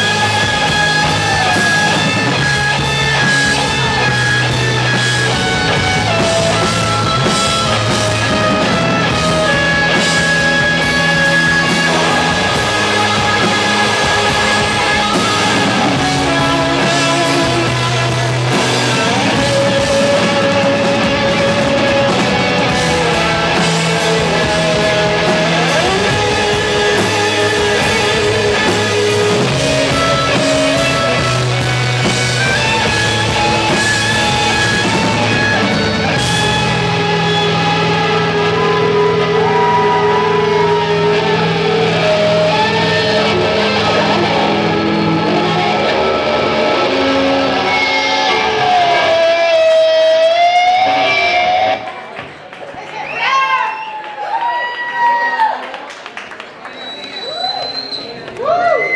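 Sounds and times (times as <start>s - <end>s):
drum kit: 0.0s - 51.8s
electric guitars: 0.0s - 52.6s.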